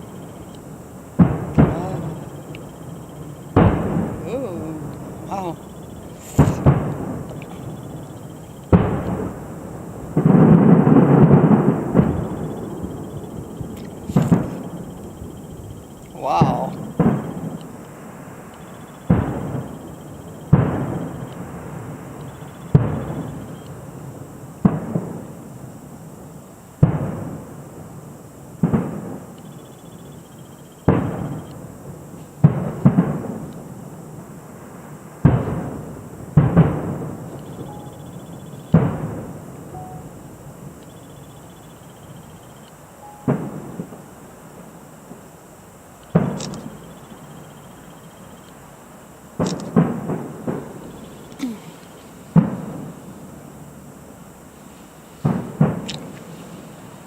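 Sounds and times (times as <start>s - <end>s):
distant fireworks bursting: 0.0s - 57.0s.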